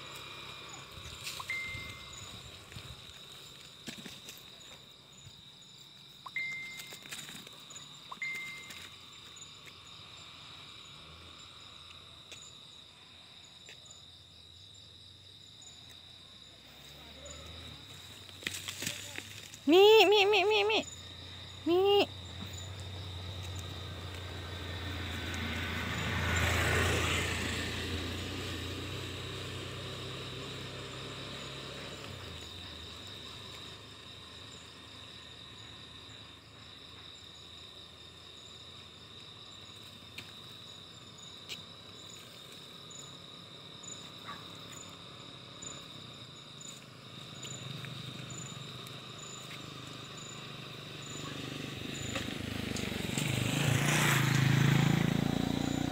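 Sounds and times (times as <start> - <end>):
passing vehicle: 0.0 - 5.7, 6.3 - 55.9
higher pulsing insect call: 0.0 - 55.9
insects trilling: 0.0 - 55.9.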